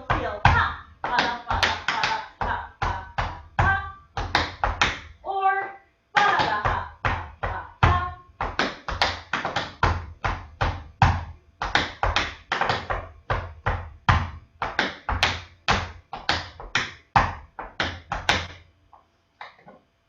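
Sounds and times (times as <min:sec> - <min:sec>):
tap shoes on hard floor: 0:00.0 - 0:05.1, 0:06.2 - 0:18.6.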